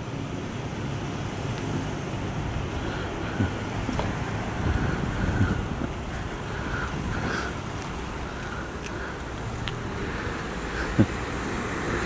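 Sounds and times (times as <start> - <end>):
wind noise on microphone: 1.9 - 12.0.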